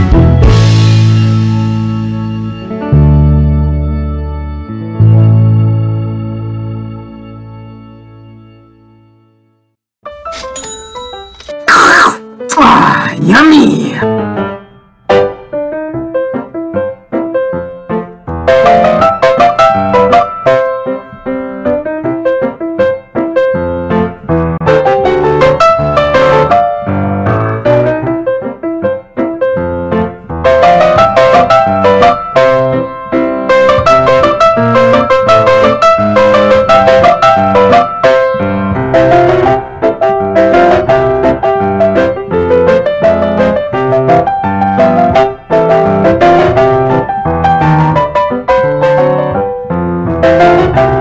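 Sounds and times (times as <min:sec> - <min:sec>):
piano music: 0:00.0 - 0:51.0.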